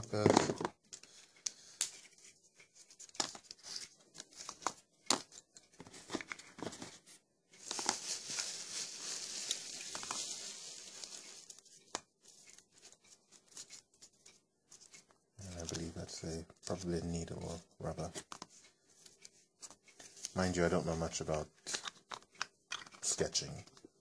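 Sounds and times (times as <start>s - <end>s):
paper crinkling rustle: 0.0s - 23.9s.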